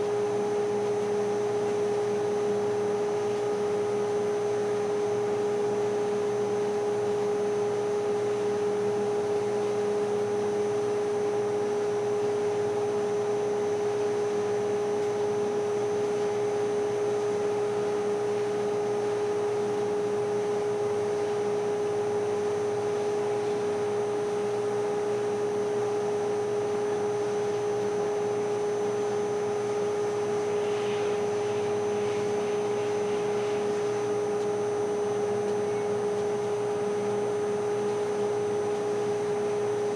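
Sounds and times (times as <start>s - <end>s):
faint high whining tones: 0.0s - 39.9s
machine hum: 0.0s - 39.9s.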